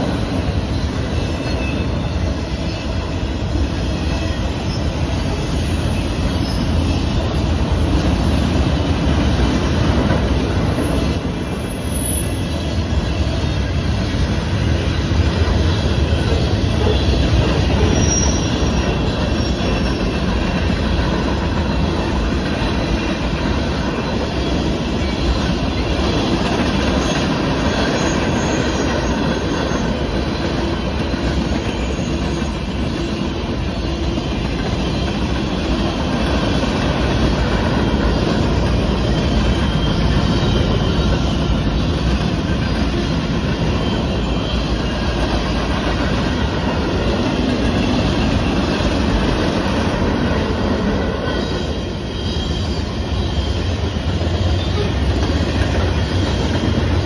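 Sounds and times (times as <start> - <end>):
freight train wheels clattering on rail: 0.0 - 57.0.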